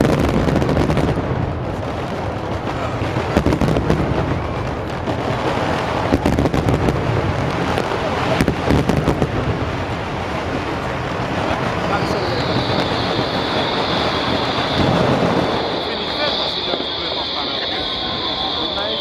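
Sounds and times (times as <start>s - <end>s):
fireworks bangs and crackles: 0.0s - 19.0s
fireworks rumble: 0.0s - 19.0s
loud fireworks reports: 0.0s - 19.0s.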